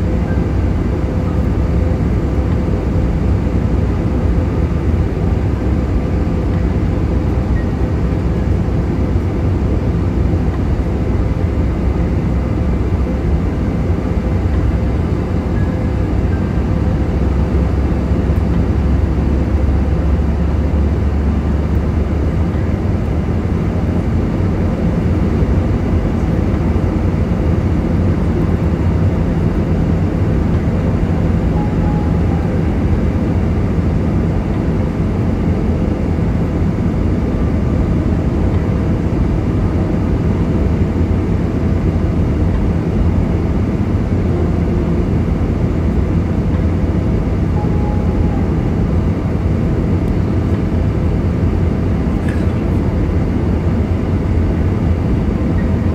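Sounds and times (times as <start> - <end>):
jet engines roaring in cabin: 0.0 - 55.9.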